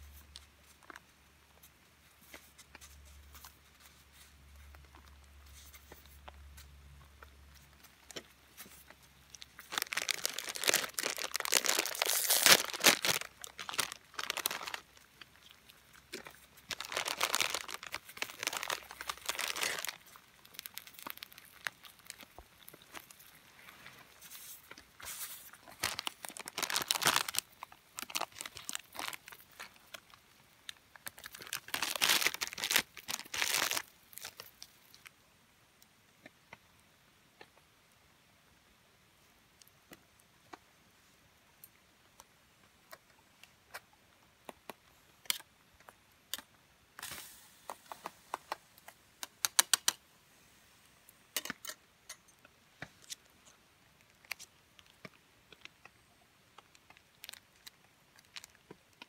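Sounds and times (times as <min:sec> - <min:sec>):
crinkling and rustling: 0:00.0 - 0:35.2, 0:39.6 - 0:50.0, 0:50.8 - 0:59.0.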